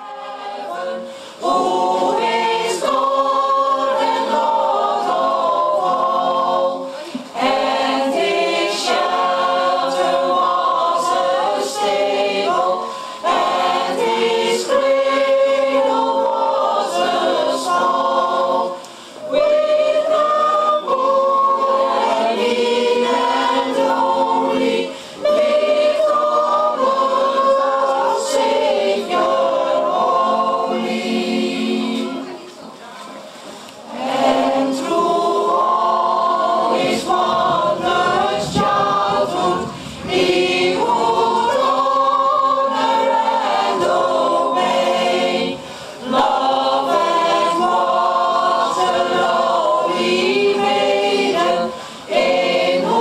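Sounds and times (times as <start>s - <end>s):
mixed choir singing a carol: 0.0s - 53.0s.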